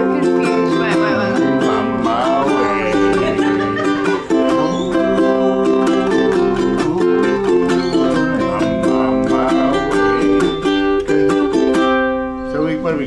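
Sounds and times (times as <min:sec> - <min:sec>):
ukulele strumming: 0:00.0 - 0:13.0.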